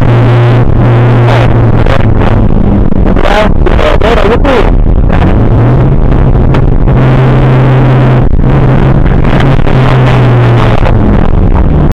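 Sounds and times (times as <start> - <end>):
car engine running loud: 0.0 - 11.9.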